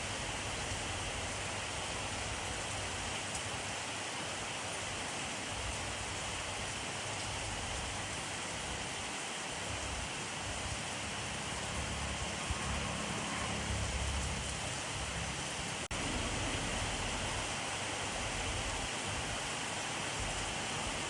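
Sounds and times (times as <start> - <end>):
rain pattering on a surface: 0.0 - 21.0.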